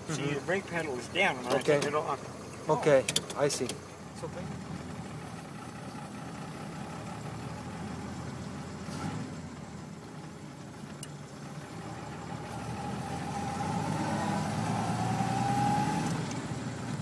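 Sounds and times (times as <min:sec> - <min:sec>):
car engine pulling away: 0:00.0 - 0:17.0.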